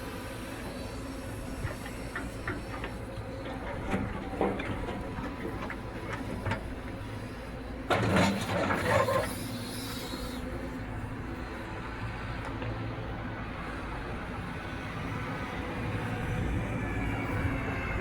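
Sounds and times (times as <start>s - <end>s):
construction machinery diesel rumble: 0.0s - 18.0s.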